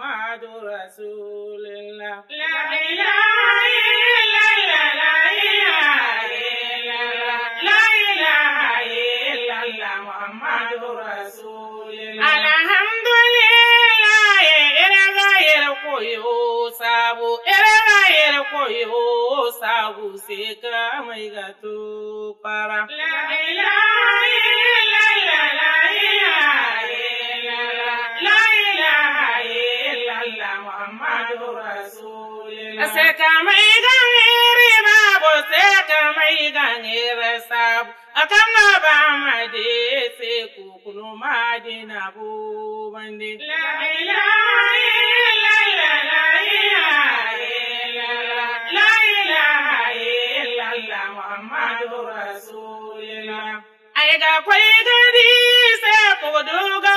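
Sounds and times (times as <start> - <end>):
person chanting: 0.0 - 56.9.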